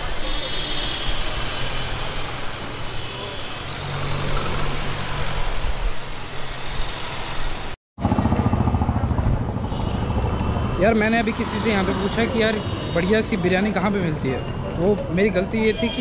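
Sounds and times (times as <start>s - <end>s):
road noise: 0.0s - 16.0s
vehicle engines humming: 0.0s - 16.0s.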